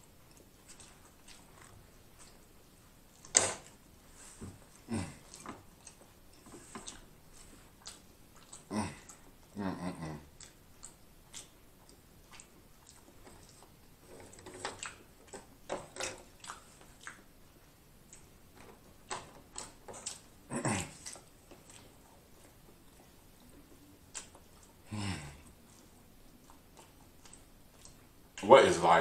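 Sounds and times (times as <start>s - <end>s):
wet chewing and mouth sounds: 0.0s - 28.5s.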